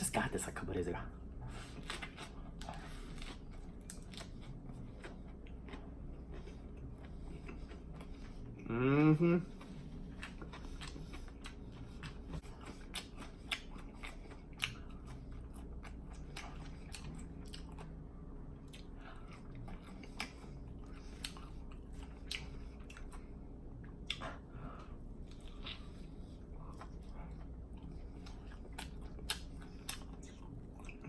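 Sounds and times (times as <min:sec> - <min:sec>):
person chewing and smacking: 0:01.5 - 0:31.0.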